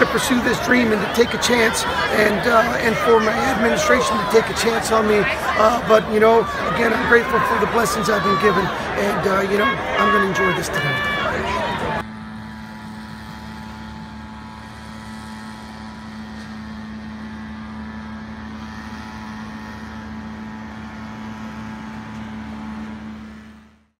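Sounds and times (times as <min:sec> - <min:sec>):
steady mechanical hum: 0:00.0 - 0:23.9.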